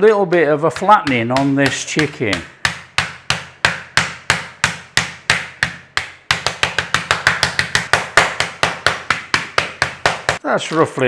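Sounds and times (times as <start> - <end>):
meat pounded in plastic bag: 0.7 - 10.9.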